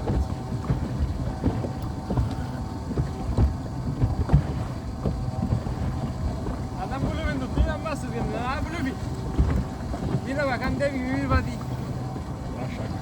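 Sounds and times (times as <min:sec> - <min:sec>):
boat motor hum: 0:00.0 - 0:13.0
wind buffeting microphone: 0:00.0 - 0:13.0.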